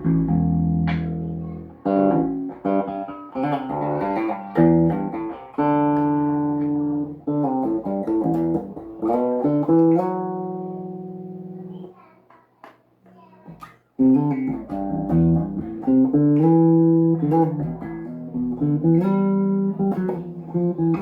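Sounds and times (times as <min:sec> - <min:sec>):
electric bass plucked notes: 0:00.0 - 0:11.6, 0:14.0 - 0:21.0.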